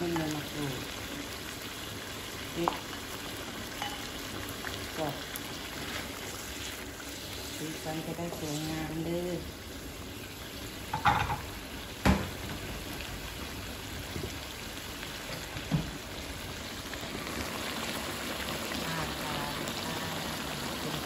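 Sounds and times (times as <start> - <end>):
curry bubbling in a wok: 0.0 - 21.0.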